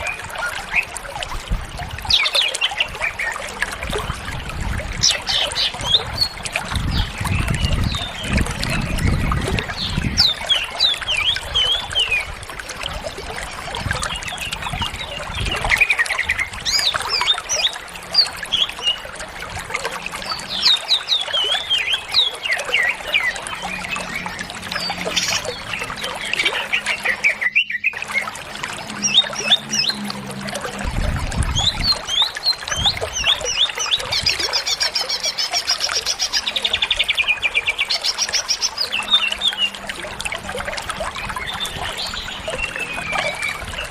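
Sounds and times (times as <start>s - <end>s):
bird singing twittering phrases: 2.0s - 3.8s, 4.9s - 12.4s, 13.3s - 19.2s, 20.2s - 40.1s, 41.0s - 43.9s.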